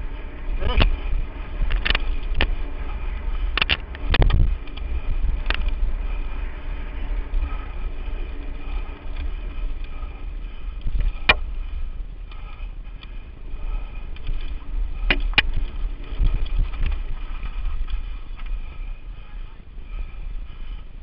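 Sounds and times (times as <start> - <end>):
bike riding rumble: 0.0 - 21.0.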